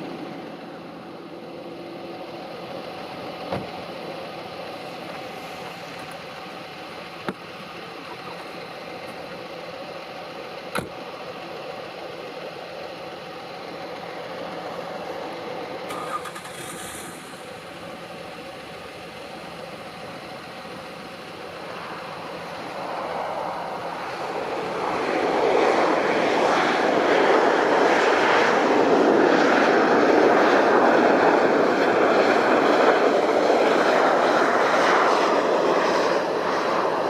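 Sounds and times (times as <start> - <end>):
jet airliner roar: 0.0 - 37.0.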